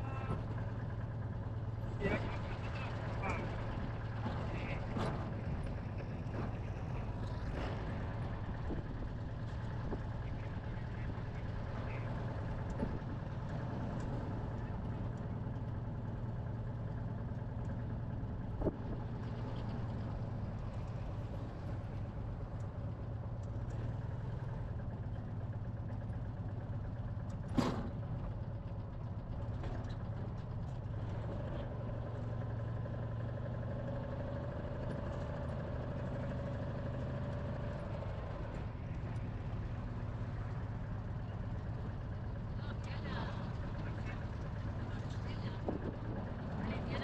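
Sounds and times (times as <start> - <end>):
car engine running: 0.0 - 47.0
road noise: 0.0 - 47.0.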